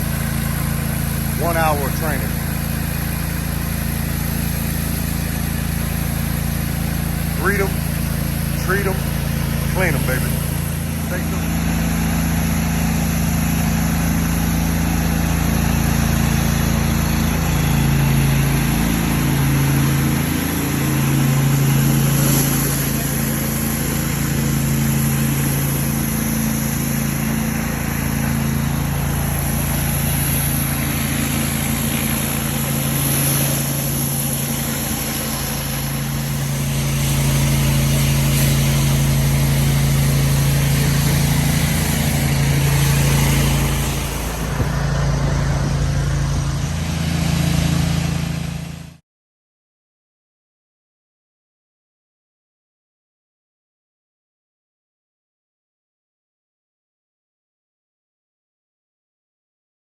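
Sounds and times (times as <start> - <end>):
pressure washer engine running: 0.0 - 49.0.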